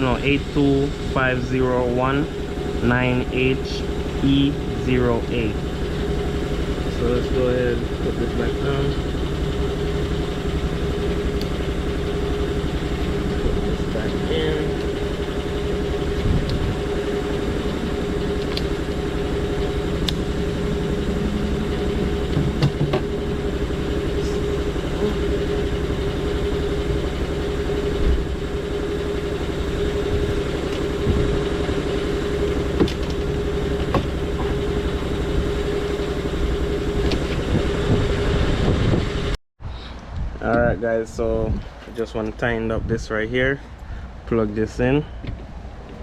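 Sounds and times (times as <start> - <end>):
motor idling: 0.0 - 39.4.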